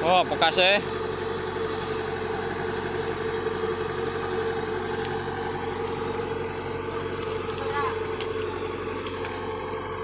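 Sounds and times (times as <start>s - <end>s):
heavy machinery engine drone: 0.0s - 10.0s.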